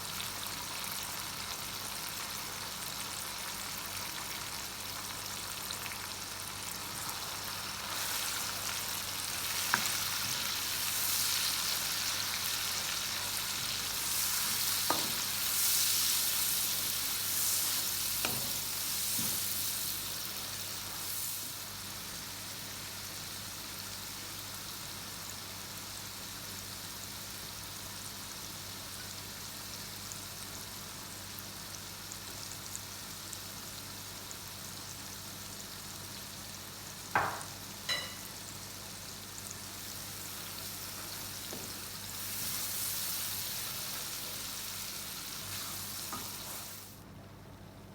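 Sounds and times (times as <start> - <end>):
food sizzling in hot oil: 0.0 - 47.1.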